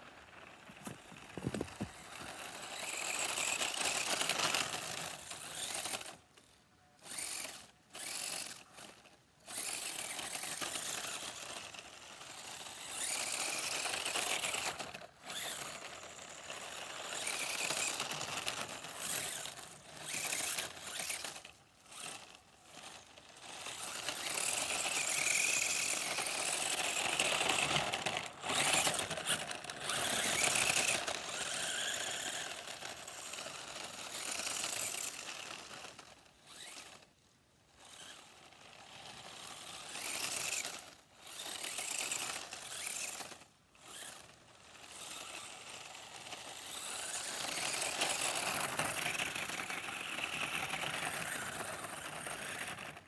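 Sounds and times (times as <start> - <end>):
rc car motor whining: 0.0 - 53.0.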